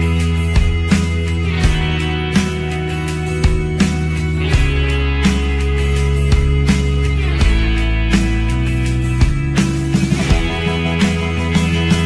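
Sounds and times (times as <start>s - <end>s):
sustained music chords: 0.0s - 12.0s.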